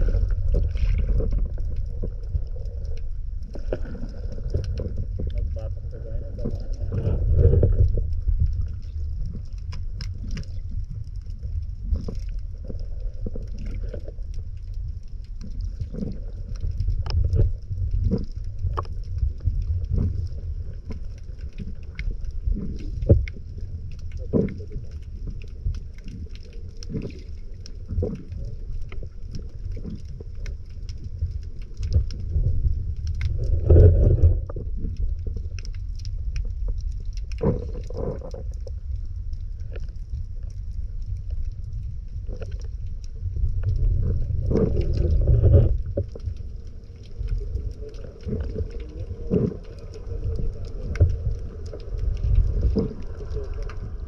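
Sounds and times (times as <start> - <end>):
underwater low rumble: 0.0 - 54.0.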